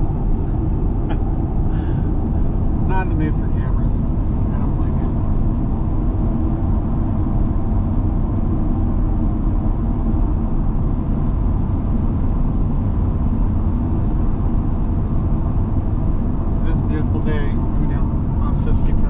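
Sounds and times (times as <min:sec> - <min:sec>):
van engine and road noise: 0:00.0 - 0:19.0.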